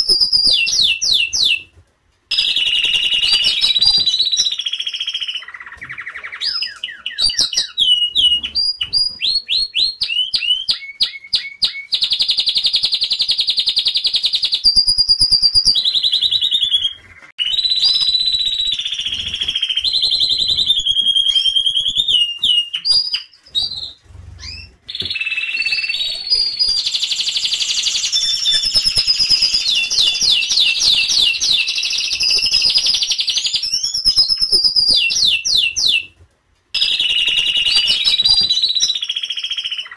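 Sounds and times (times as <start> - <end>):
canary singing trills: 2.3 - 36.1.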